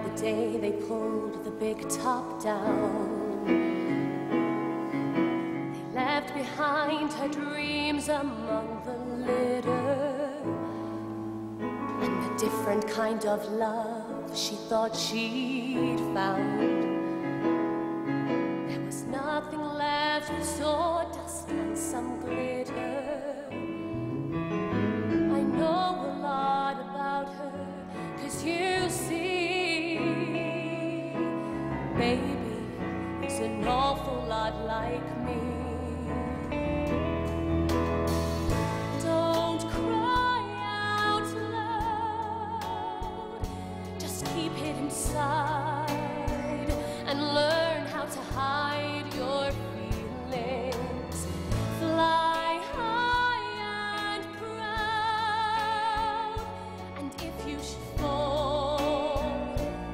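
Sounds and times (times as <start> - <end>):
woman singing a slow ballad: 0.0 - 4.6, 5.7 - 11.2, 11.9 - 17.3, 18.6 - 23.8, 25.2 - 37.6, 38.9 - 59.9
instrumental accompaniment: 0.0 - 59.9.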